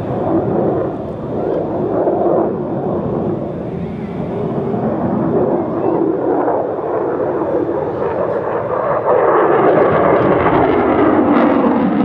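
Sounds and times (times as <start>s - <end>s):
jet flying overhead: 0.0s - 12.0s.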